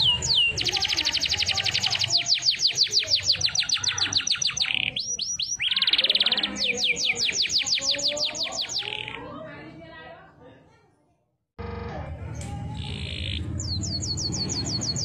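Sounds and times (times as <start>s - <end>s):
canary singing: 0.0s - 9.4s, 12.3s - 15.0s.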